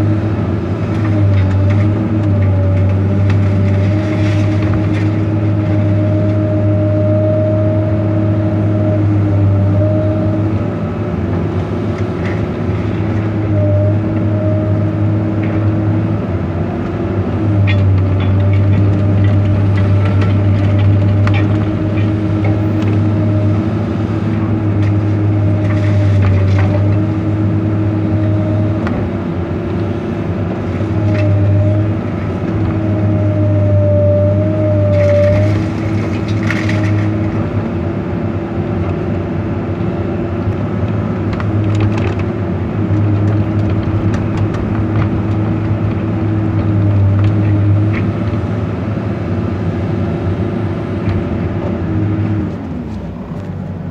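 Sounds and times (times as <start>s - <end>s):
excavator engine and hydraulics: 0.0s - 53.9s.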